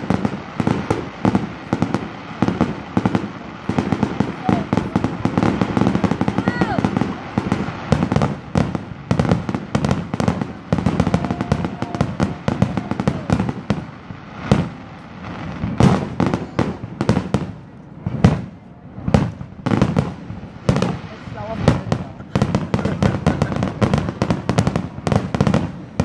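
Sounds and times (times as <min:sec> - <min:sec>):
firework bursts and crackles: 0:00.0 - 0:26.0
sharp firework bangs: 0:00.0 - 0:26.0.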